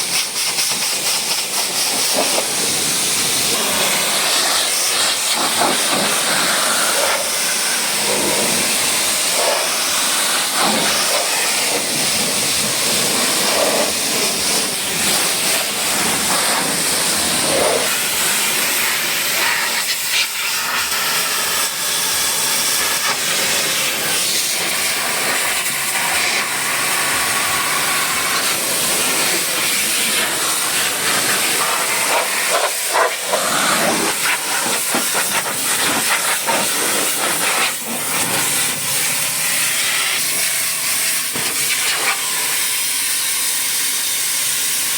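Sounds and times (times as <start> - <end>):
pressure washer spraying: 0.0 - 44.9.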